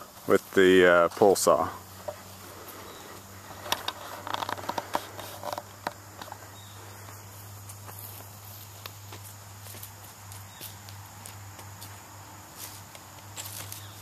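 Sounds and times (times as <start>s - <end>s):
footsteps crunching on dry leaves: 0.0s - 14.0s.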